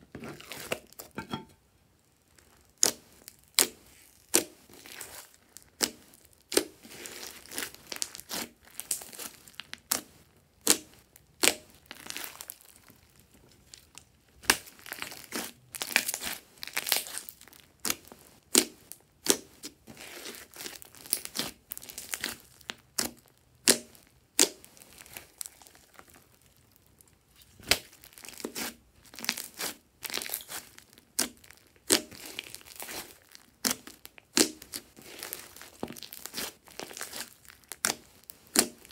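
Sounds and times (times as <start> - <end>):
slime squelching: 2.5 - 38.9.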